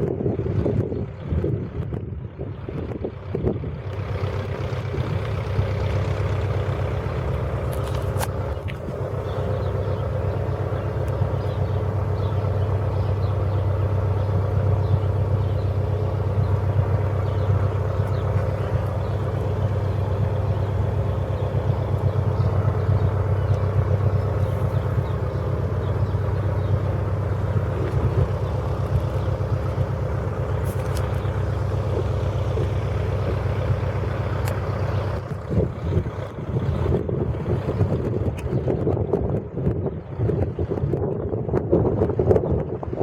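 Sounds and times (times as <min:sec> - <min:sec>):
aircraft piston engine droning: 0:00.0 - 0:43.0.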